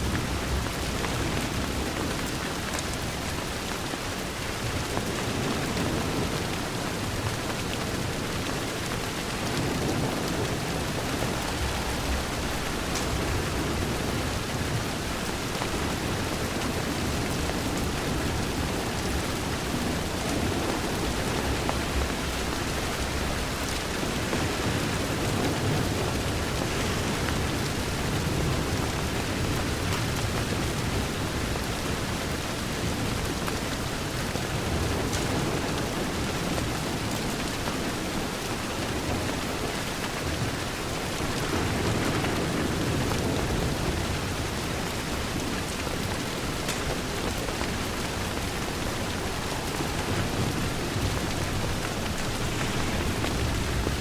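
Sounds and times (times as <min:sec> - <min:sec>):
rain on a window: 0:00.0 - 0:54.0.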